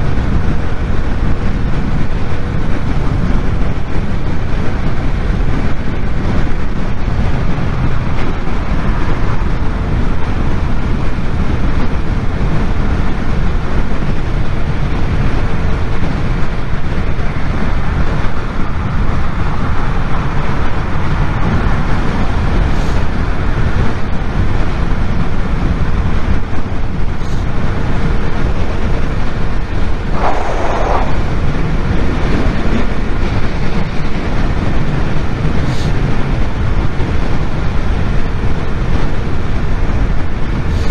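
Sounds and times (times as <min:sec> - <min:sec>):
wind rushing on microphone: 0:00.0 - 0:40.9.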